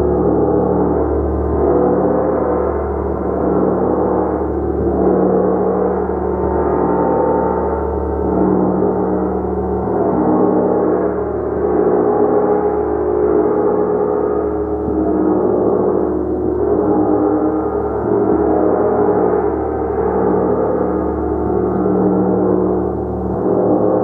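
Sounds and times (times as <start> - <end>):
gong played continuously: 0.0 - 24.0.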